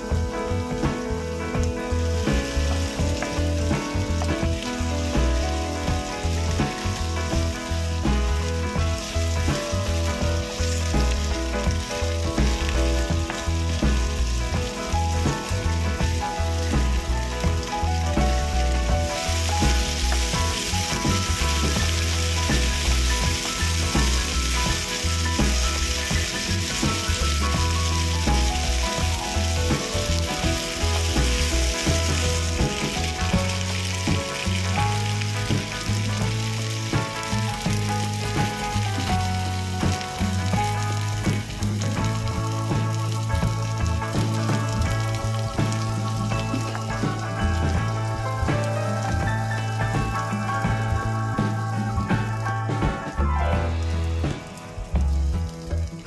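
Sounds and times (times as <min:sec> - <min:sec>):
background music: 0:00.0 - 0:56.0
food frying in oil: 0:00.0 - 0:56.0.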